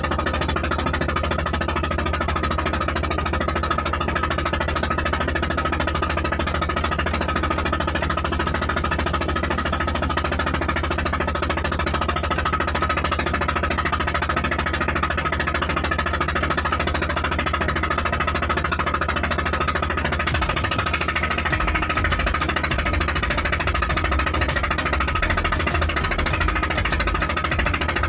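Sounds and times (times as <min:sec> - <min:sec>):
boat engine knocking: 0:00.0 - 0:28.0.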